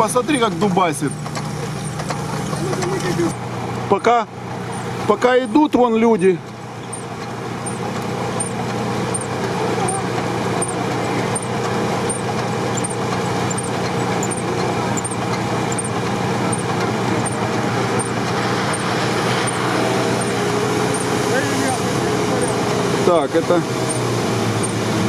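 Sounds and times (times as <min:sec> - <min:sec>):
off-road vehicle engines under load: 0:00.0 - 0:25.0.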